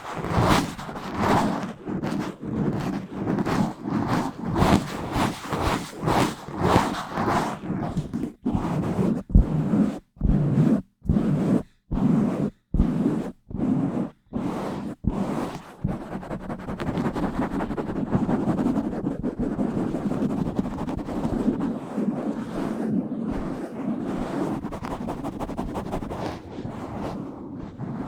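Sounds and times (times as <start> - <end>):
scratching on microphone: 0.0 - 28.0.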